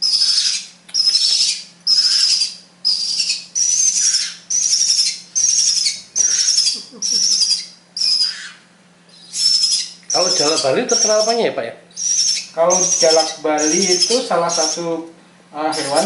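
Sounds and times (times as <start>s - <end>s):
nestlings rasping begging calls: 0.0s - 15.0s, 15.6s - 16.0s.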